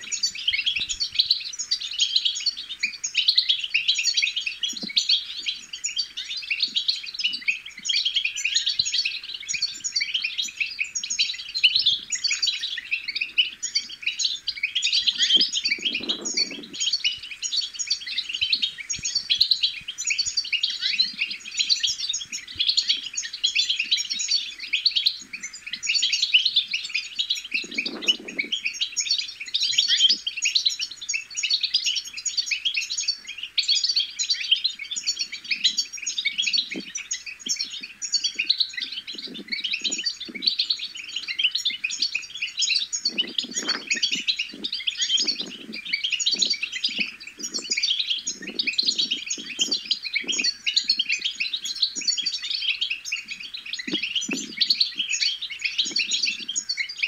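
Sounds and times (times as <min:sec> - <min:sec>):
goldfinches twittering: 0:00.0 - 0:57.0.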